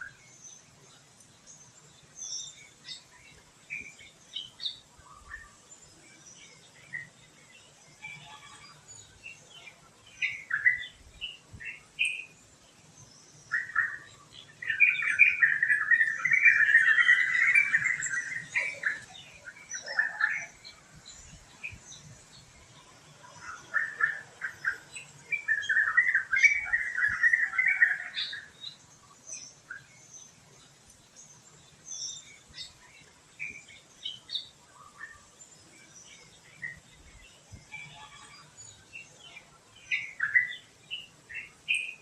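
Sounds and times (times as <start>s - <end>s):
birds chirping: 0.0s - 42.0s
rapid chattering birdsong: 0.0s - 42.0s.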